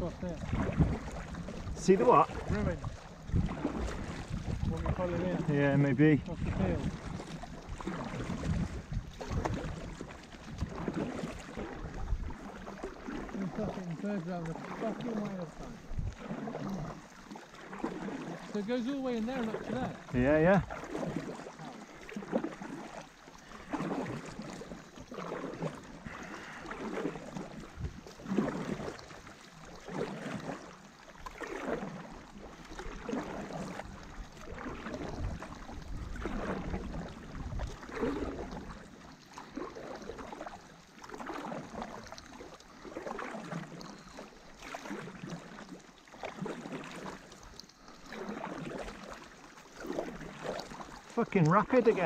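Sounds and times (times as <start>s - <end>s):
paddles splashing through water: 0.0s - 52.0s.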